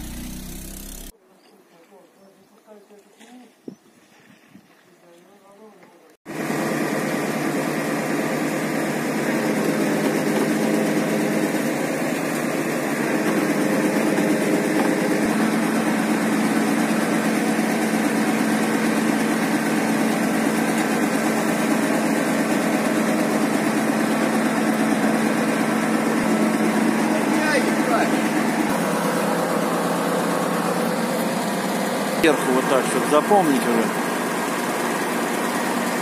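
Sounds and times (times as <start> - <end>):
engine humming: 0.0 - 1.1, 6.3 - 36.0.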